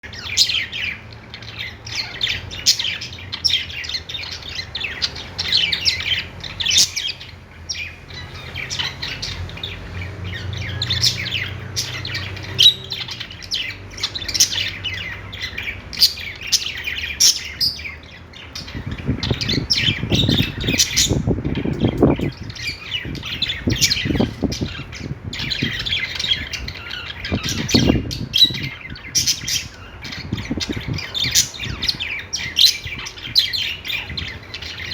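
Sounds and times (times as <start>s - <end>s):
budgerigars chirping: 0.0s - 34.9s.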